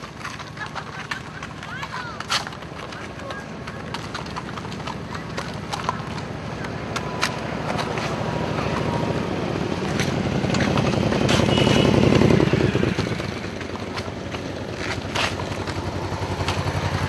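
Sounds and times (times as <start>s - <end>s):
motorcycles riding past: 0.0s - 17.0s.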